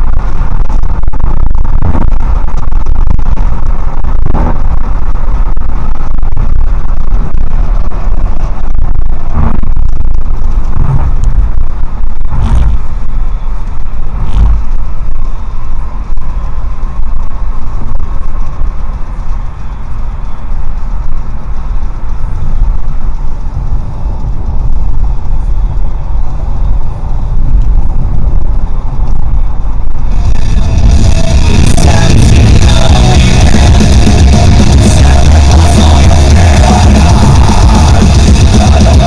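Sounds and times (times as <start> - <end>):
car road noise from inside cabin: 0.0 - 39.0.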